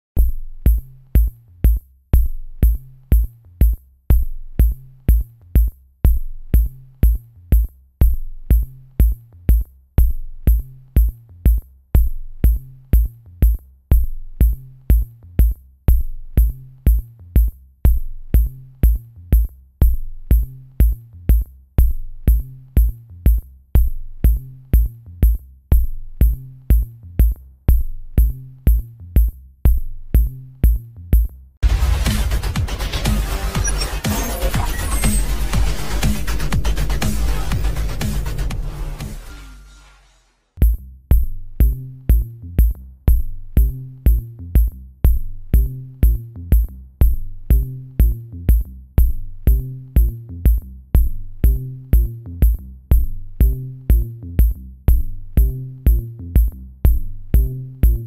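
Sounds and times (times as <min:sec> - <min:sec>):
electronic music with drum machine: 0:00.2 - 0:58.0.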